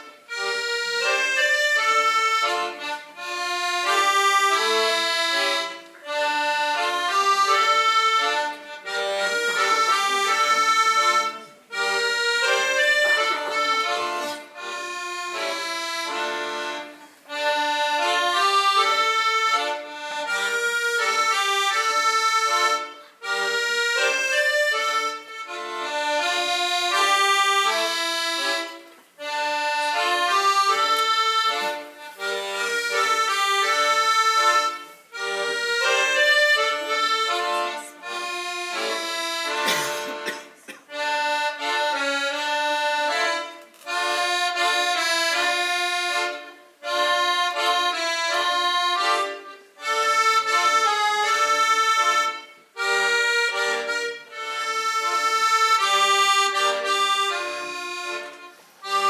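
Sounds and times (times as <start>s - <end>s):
accordion melody: 0.0s - 59.0s.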